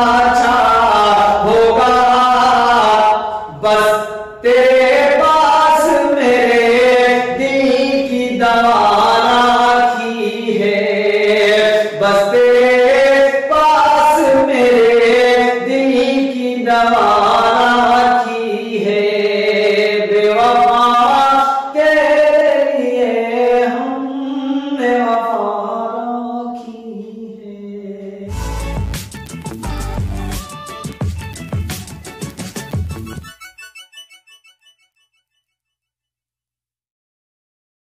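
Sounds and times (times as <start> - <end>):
man singing: 0.0 - 31.0.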